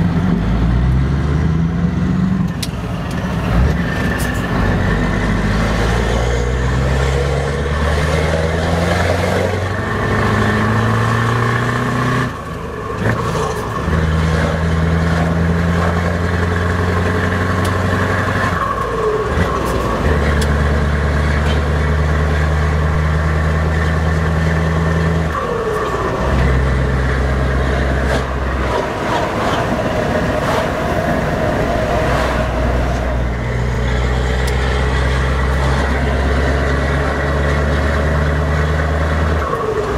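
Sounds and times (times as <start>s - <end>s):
diesel truck engine revving: 0.0s - 39.9s.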